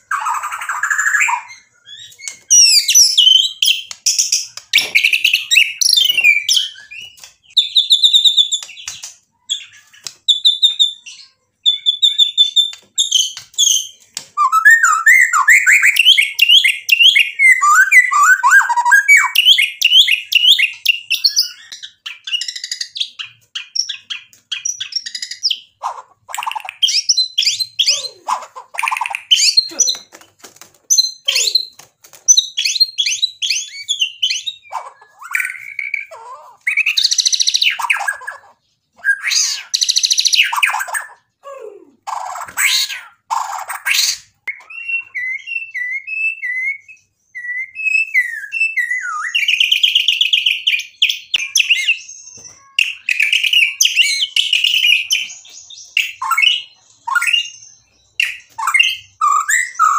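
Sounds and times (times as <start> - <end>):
bird singing varied song: 0.0 - 30.2, 30.9 - 59.9.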